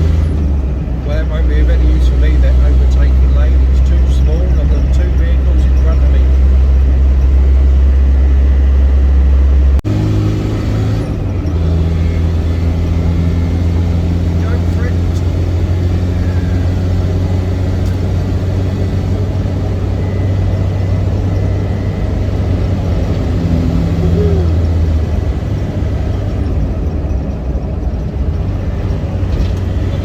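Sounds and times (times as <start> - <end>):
diesel engine droning: 0.0 - 30.0
road noise: 0.0 - 30.0.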